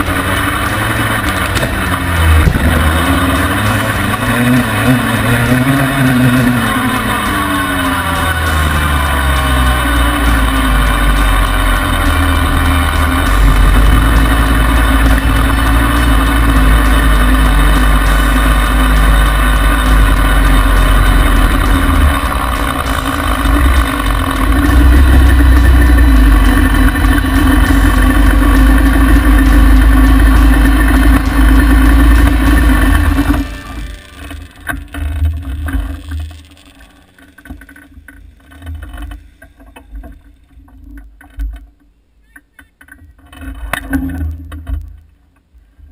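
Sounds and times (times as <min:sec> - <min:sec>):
two-stroke engine running: 0:00.0 - 0:41.4.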